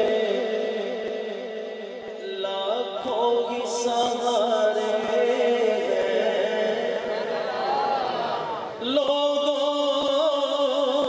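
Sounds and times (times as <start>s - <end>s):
man singing into a microphone: 0.0s - 7.4s, 8.7s - 11.0s.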